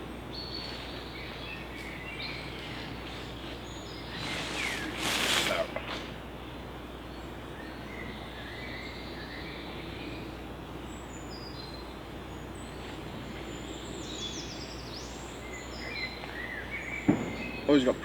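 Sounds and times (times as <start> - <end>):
small birds singing: 0.0 - 18.0.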